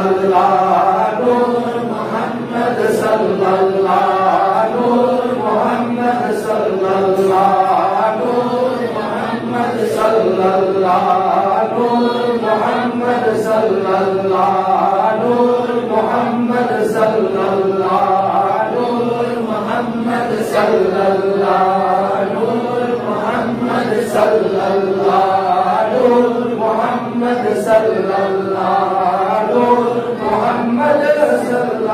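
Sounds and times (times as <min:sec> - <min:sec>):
men chanting devotional phrase: 0:00.0 - 0:31.9.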